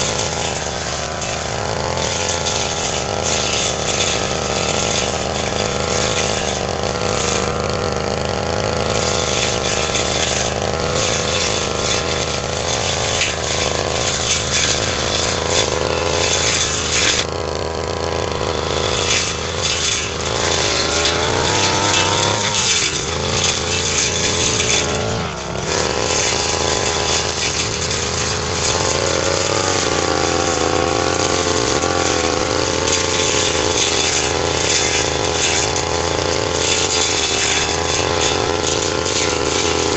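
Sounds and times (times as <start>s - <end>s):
blade cutting undergrowth: 0.0s - 39.9s
brush cutter engine running: 0.0s - 39.9s.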